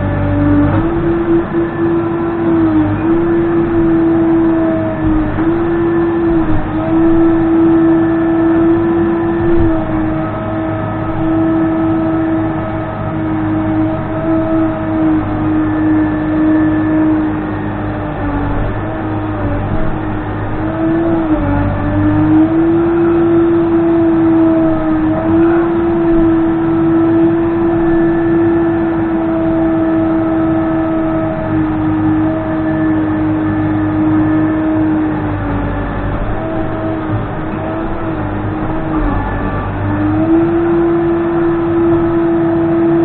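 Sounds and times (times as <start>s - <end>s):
backhoe diesel engine and hydraulics: 0.0s - 43.0s.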